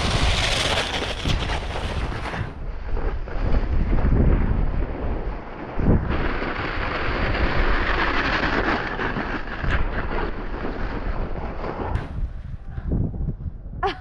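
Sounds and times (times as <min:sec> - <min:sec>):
skis scraping over snow: 0:00.0 - 0:12.5
wind rumbling on microphone: 0:00.0 - 0:14.0.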